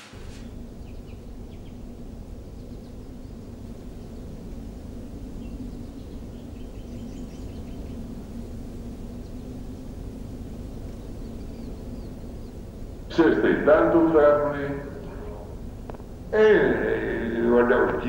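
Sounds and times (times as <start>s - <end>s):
faint hum: 0.0s - 18.0s
low outdoor rumble: 0.0s - 18.0s.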